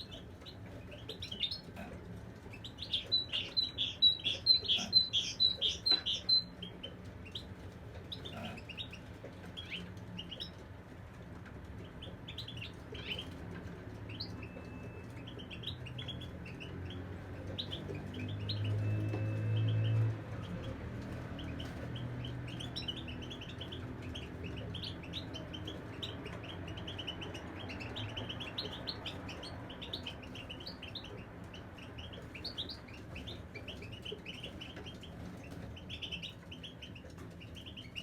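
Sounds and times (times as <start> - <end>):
goldfinches chirping and twittering: 0.0 - 1.7, 2.5 - 7.5, 14.1 - 38.0.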